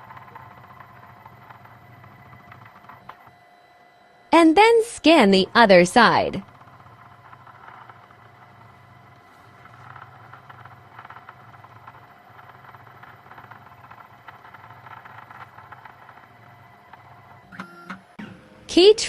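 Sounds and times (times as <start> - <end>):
faint motor hum: 0.0 - 19.0.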